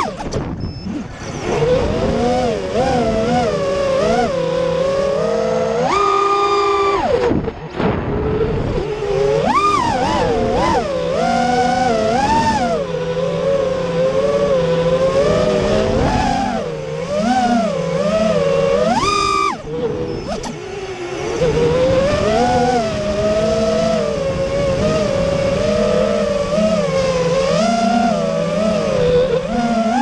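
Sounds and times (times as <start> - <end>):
quadcopter motors buzzing whine: 0.0 - 30.0.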